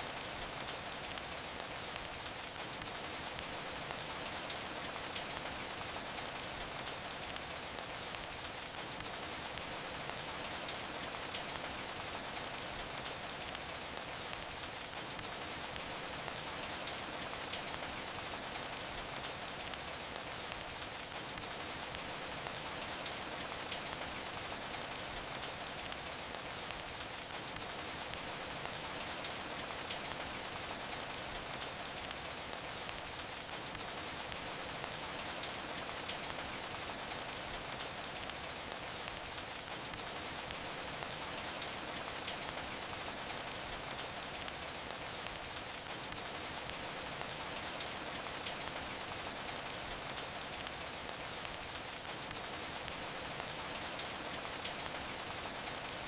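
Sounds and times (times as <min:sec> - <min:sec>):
steady rain: 0:00.0 - 0:56.0
wood fire crackling: 0:00.0 - 0:56.0.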